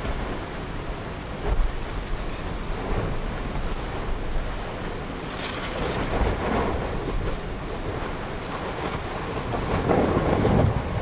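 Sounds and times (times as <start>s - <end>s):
strong wind on microphone: 0.0s - 11.0s
volcano rumbling: 0.0s - 11.0s.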